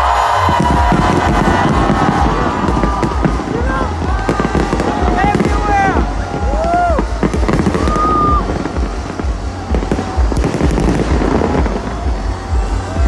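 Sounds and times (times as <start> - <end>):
fireworks bangs and crackles: 0.1 - 13.0.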